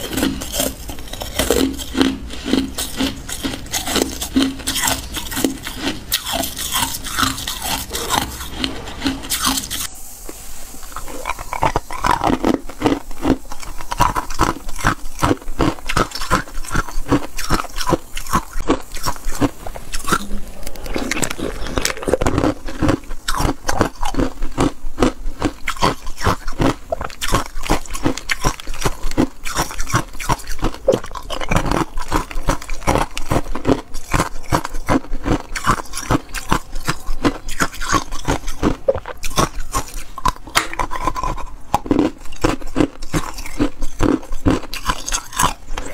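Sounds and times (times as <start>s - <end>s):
ice crunching while chewed: 0.0s - 9.9s, 10.8s - 45.9s.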